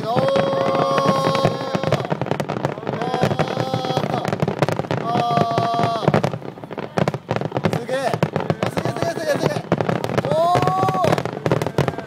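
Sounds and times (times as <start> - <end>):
drawn-out voices: 0.0 - 12.0
fireworks bangs and crackles: 0.0 - 12.0.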